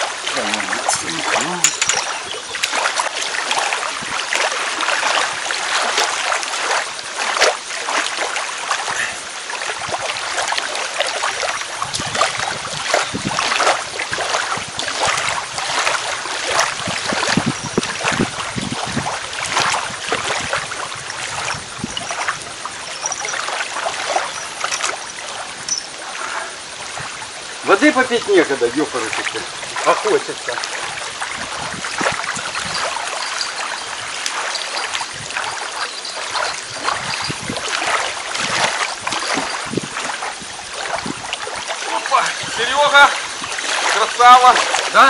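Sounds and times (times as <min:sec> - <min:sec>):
water splashing and lapping: 0:00.0 - 0:45.0.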